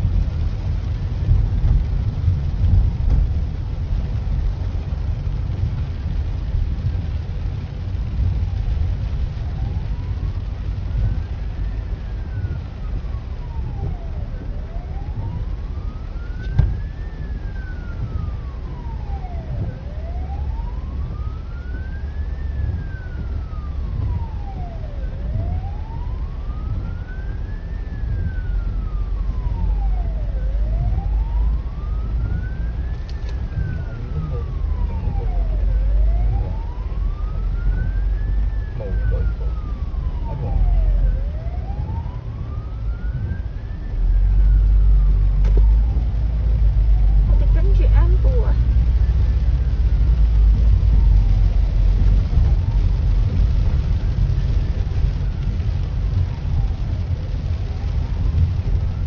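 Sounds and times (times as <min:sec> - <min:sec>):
low car cabin rumble: 0:00.0 - 0:44.0, 0:44.7 - 0:59.0
emergency vehicle siren wailing: 0:00.0 - 0:59.0.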